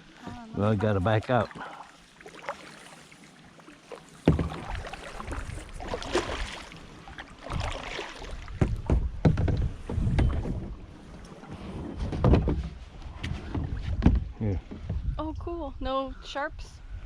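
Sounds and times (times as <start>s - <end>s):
paddle splashing in water: 0.0s - 15.1s.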